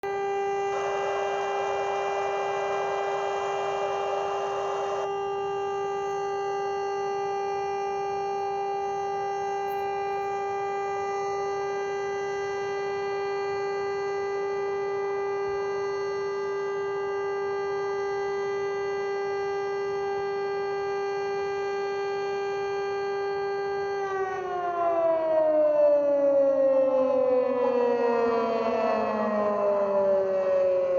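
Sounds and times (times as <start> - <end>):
air raid siren steady tone: 0.0 - 30.9.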